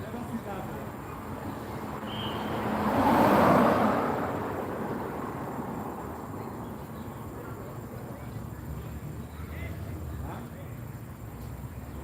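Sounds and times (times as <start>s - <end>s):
road vehicle passing by: 0.0s - 12.0s.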